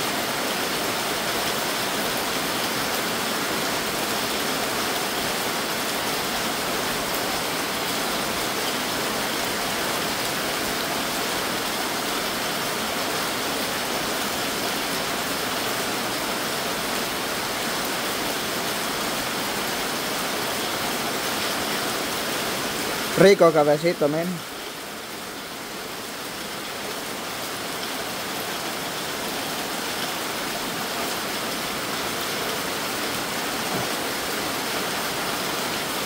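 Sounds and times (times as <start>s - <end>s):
heavy rain on wet concrete: 0.0s - 36.0s.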